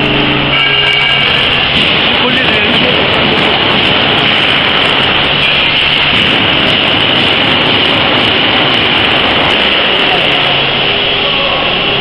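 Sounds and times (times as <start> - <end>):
filling machine running with hiss: 0.0 - 12.0.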